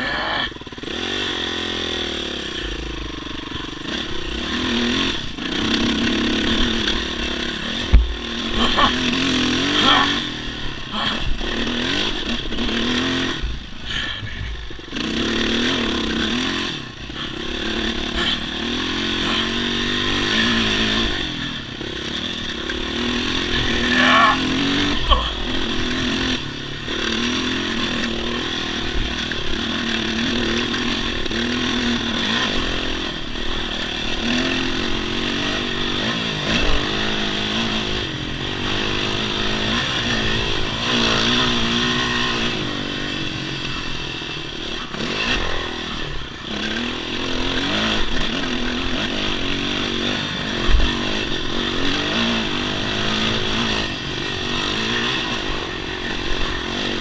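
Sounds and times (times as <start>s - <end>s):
dirt bike engine: 0.0s - 57.0s.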